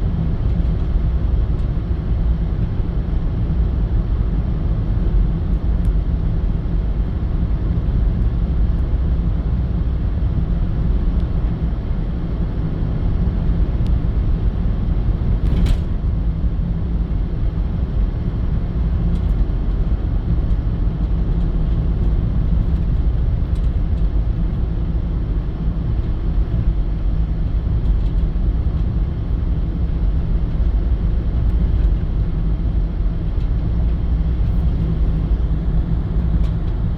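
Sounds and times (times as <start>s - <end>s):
vehicle road and engine rumble: 0.0s - 36.9s.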